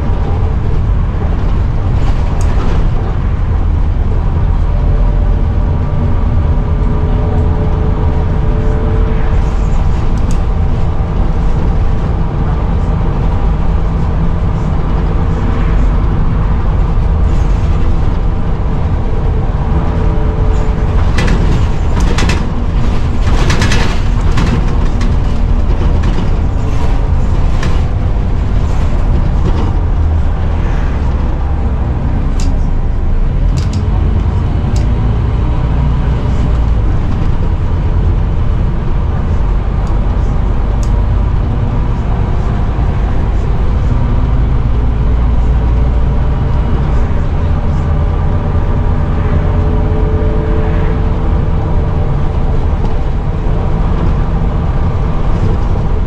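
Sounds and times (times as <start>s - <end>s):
bus body rattling and knocking: 0.0s - 56.0s
bus running rumble: 0.0s - 56.0s.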